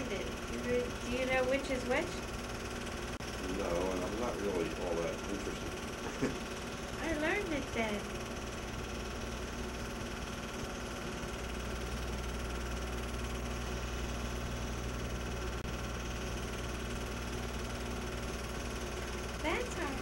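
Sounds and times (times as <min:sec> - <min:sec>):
film projector running: 0:00.0 - 0:20.0.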